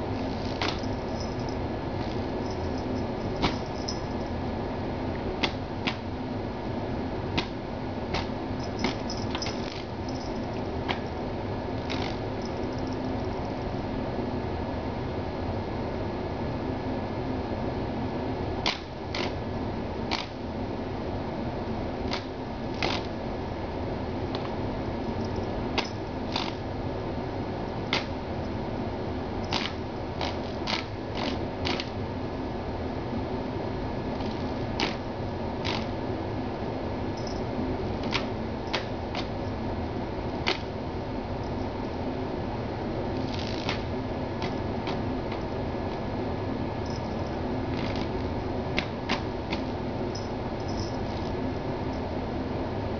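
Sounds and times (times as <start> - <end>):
electric fan whirring: 0.0 - 52.9.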